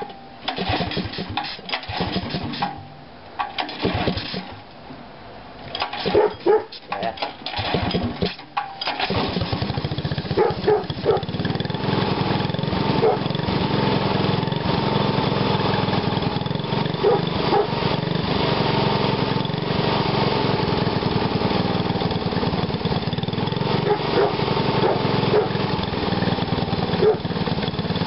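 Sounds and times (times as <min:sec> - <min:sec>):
small engine idling: 0:00.0 - 0:04.6, 0:05.8 - 0:06.3, 0:07.0 - 0:28.0.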